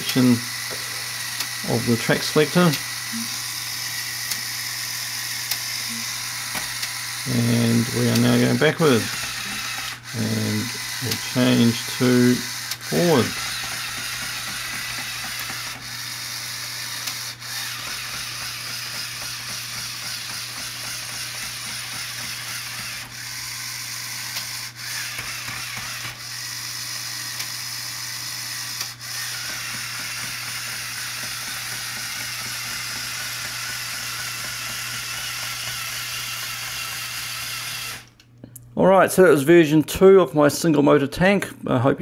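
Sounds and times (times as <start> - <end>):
toy motor whir with gear chatter: 0.0 - 38.2.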